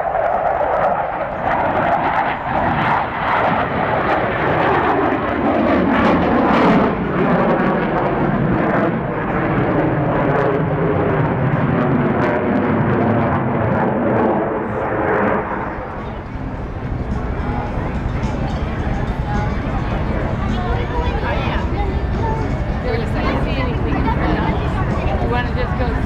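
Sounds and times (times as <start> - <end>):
jet aircraft flying past: 0.0 - 26.0.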